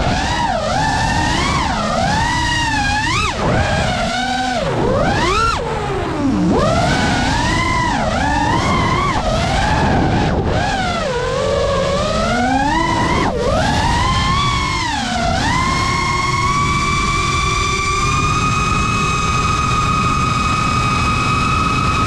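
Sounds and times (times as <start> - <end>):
drone motors whining: 0.0 - 22.0
wind rush: 0.0 - 22.0.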